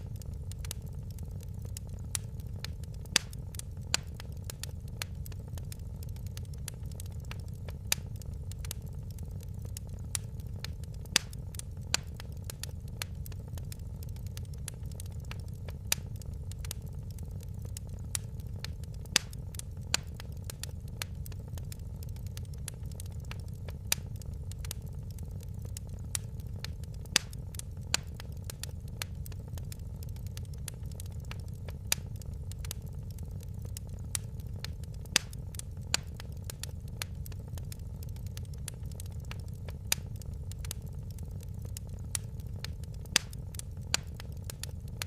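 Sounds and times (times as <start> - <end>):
fire pops and snaps: 0.0 - 45.0
low rumble of burning: 0.0 - 45.0
wood fire crackling: 0.0 - 45.0.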